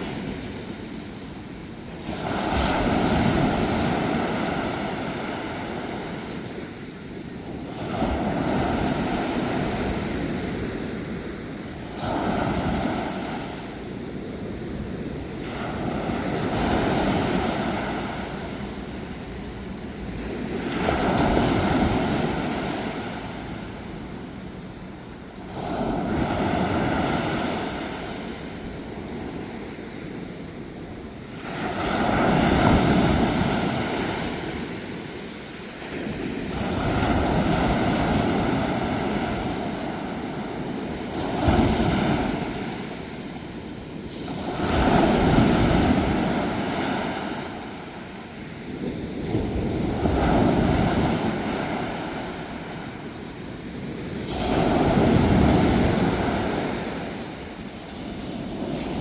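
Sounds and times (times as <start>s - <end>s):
sea waves breaking ashore: 0.0s - 59.0s.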